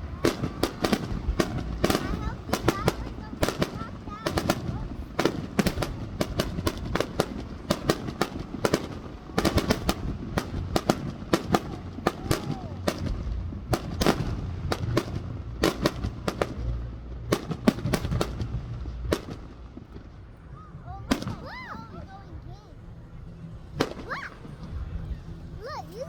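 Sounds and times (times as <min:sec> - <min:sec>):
deep fireworks booms: 0:00.0 - 0:22.4, 0:23.7 - 0:25.2
fireworks bangs and crackles: 0:00.0 - 0:22.8, 0:23.6 - 0:26.0.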